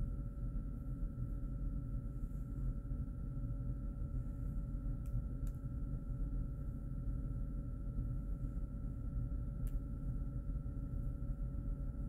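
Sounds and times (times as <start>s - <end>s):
faint hum: 0.0s - 12.0s
low room rumble: 0.0s - 12.0s.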